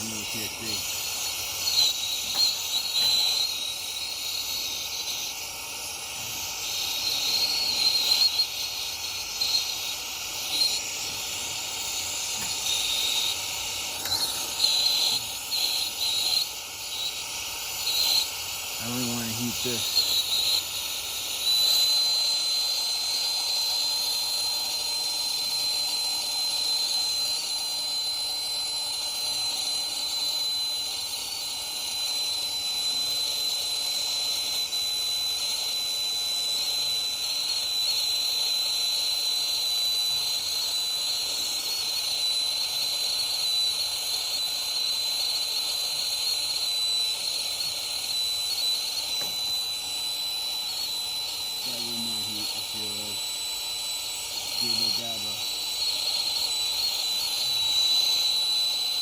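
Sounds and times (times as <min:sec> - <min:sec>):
torch flame hissing and whistling: 0:00.0 - 0:59.0.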